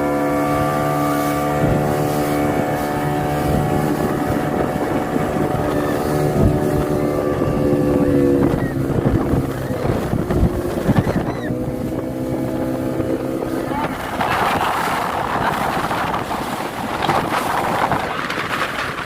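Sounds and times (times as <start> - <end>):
gusty wind noise: 0.0 - 19.0
motorboat engine running: 0.0 - 19.0.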